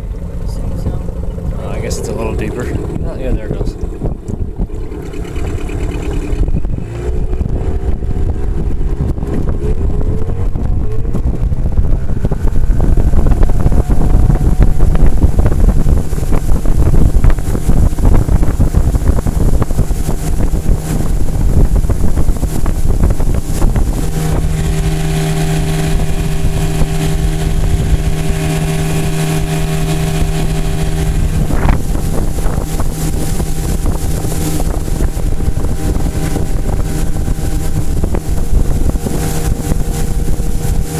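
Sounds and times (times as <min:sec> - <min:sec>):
outboard motor running: 0:00.0 - 0:40.9
wind and water rushing: 0:00.0 - 0:40.9.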